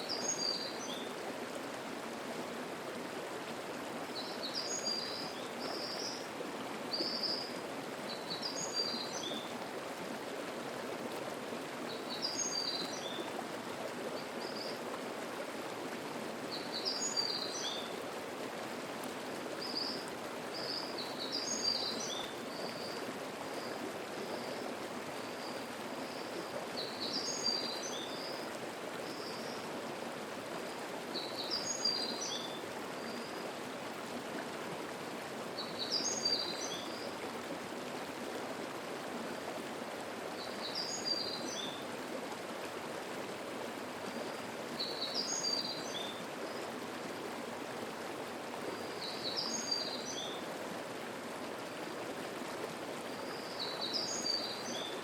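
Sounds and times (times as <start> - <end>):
mountain stream babbling: 0.0 - 55.0.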